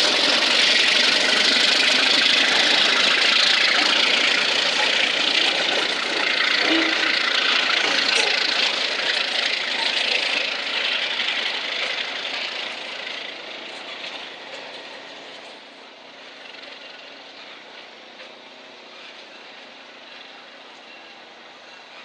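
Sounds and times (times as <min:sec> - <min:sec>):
train cars rolling on rails: 0:00.0 - 0:22.0.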